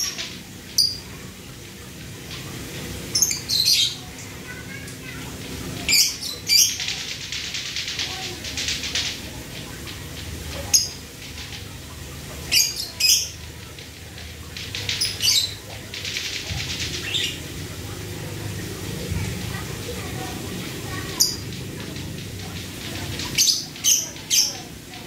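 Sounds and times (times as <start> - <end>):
bird rapid ticking chatter: 0.0 - 25.0.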